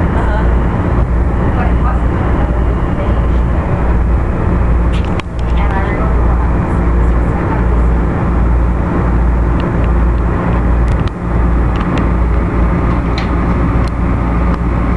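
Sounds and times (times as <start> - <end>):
motor hum: 0.0 - 14.9
train car rumble: 0.0 - 14.9.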